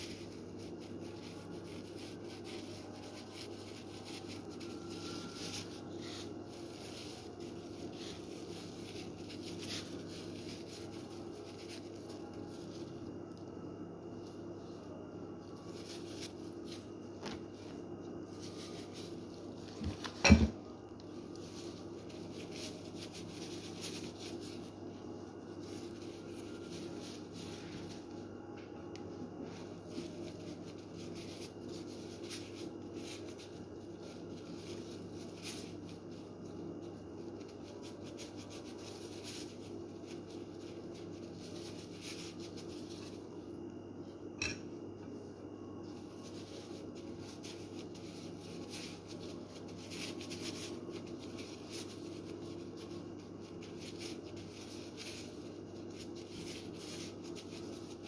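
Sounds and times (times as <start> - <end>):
gloved hands rustling and scraping: 0.0 - 58.0
steady low hum: 0.0 - 58.0.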